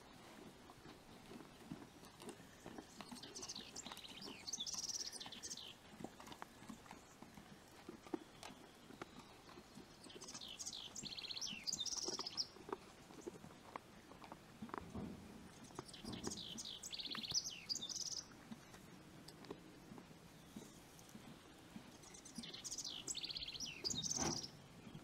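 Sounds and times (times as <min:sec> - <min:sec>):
hooves and muzzle shuffling in hay: 0:00.0 - 0:24.6
songbird singing: 0:00.9 - 0:14.0, 0:14.7 - 0:25.0.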